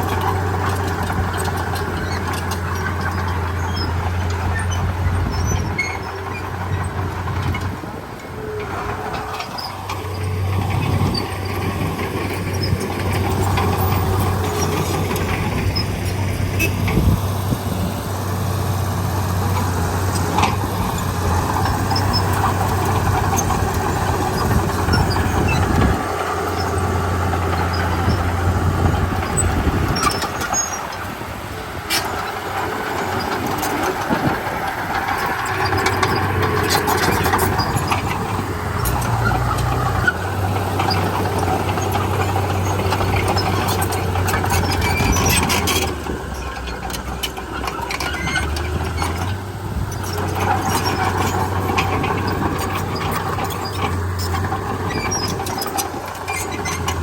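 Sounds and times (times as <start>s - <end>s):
scattered clicks and squeals: 0.0s - 17.5s, 18.5s - 57.0s
bulldozer diesel engine running: 0.0s - 57.0s.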